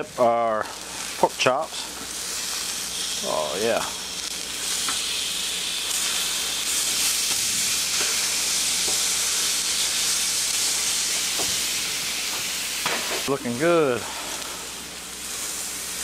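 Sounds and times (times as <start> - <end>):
meat sizzling on a griddle: 0.0 - 16.0.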